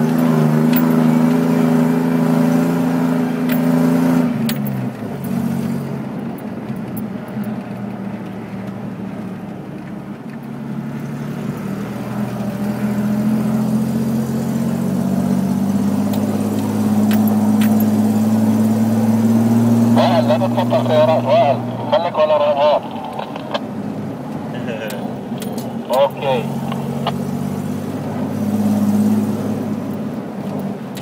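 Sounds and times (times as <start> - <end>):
car engine from inside cabin: 0.0 - 31.0.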